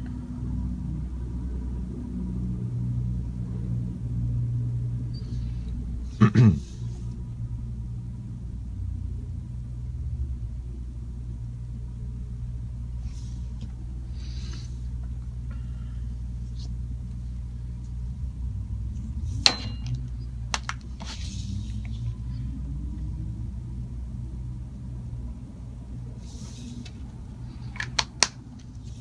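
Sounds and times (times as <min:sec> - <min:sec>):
low machinery hum: 0:00.0 - 0:29.0.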